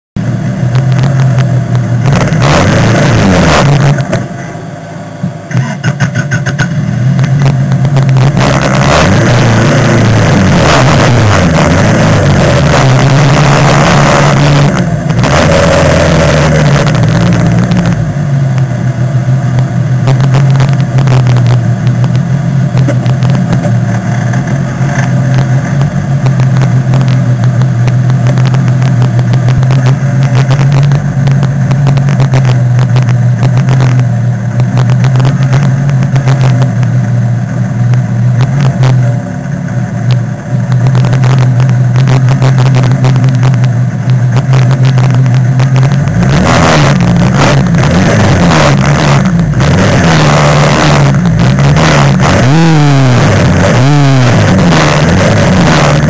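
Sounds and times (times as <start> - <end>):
race car engine idling: 0.2 - 56.0.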